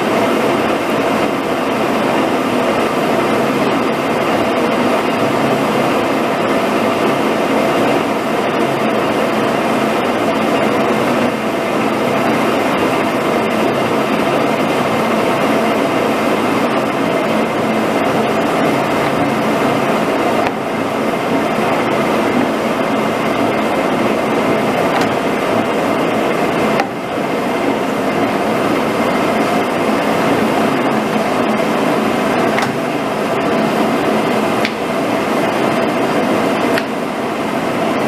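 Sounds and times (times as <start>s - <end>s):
faint steady whine: 0.0s - 38.0s
lathe running: 0.0s - 38.0s.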